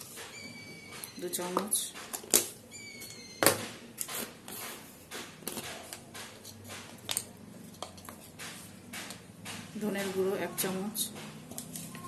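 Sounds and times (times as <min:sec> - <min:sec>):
kitchen items clicking and knocking: 0:00.0 - 0:10.3.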